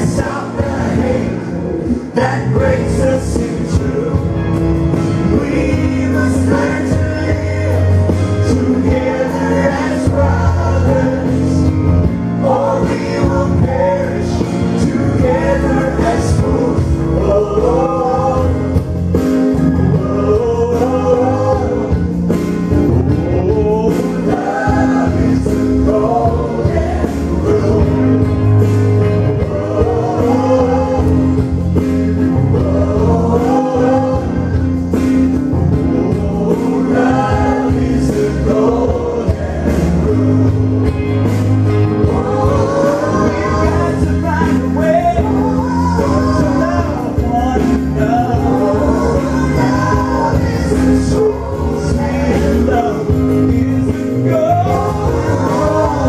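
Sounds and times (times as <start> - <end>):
woman and man singing duet: 0.0 - 4.5, 5.2 - 22.2, 23.0 - 34.8, 35.7 - 40.6, 42.0 - 56.0
instrumental accompaniment: 0.0 - 56.0.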